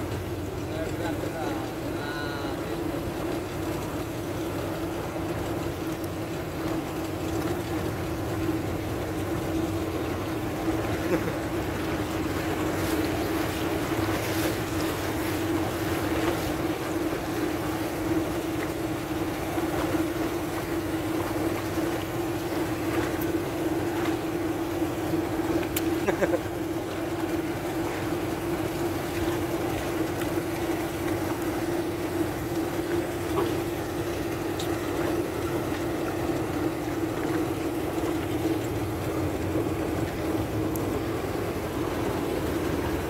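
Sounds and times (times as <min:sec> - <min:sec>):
boat engine humming: 0:00.0 - 0:43.0
rushing water: 0:00.0 - 0:43.0.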